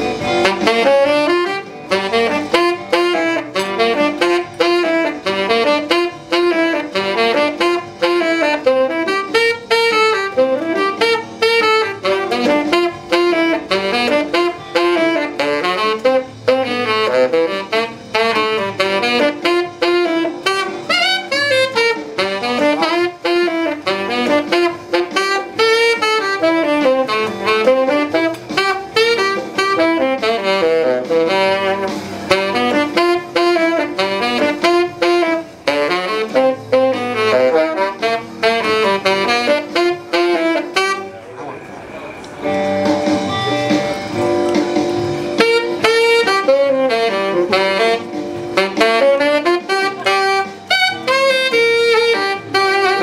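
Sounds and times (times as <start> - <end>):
tenor saxophone solo: 0.0 - 41.3, 45.0 - 53.0.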